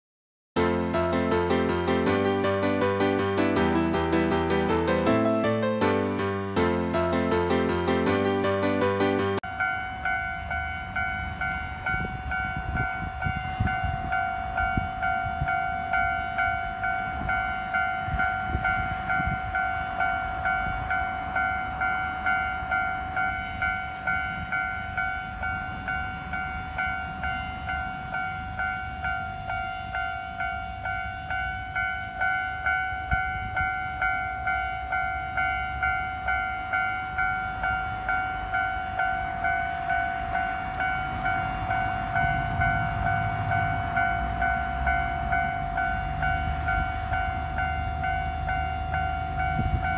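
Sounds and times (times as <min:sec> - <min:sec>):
level crossing warning bell: 0:09.4 - 0:49.9.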